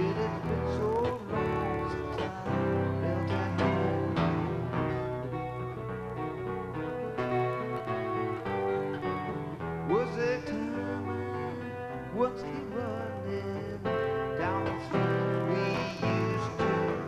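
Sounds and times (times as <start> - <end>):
acoustic guitar strumming: 0.0 - 17.0
electric guitar lead with bends: 0.0 - 17.0.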